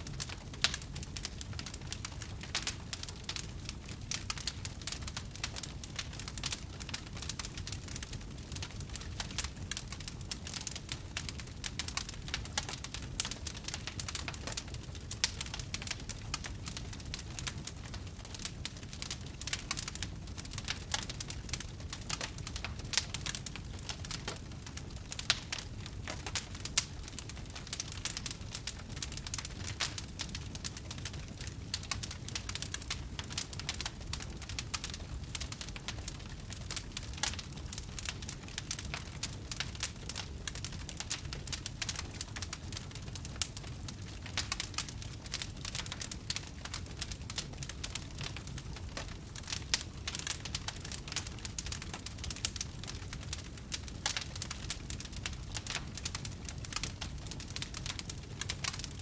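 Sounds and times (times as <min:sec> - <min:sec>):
low rumble of burning fire: 0:00.0 - 0:59.0.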